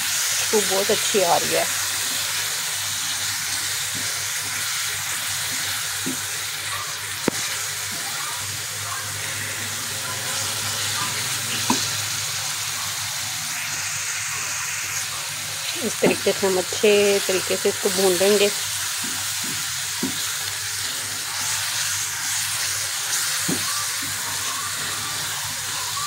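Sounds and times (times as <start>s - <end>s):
masala sizzling in a frying pan: 0.0s - 26.0s.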